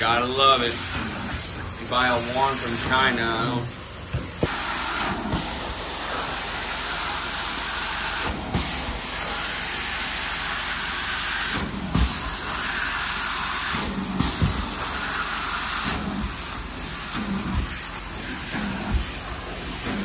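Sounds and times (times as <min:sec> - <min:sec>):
spray and suction hiss: 0:00.1 - 0:20.0.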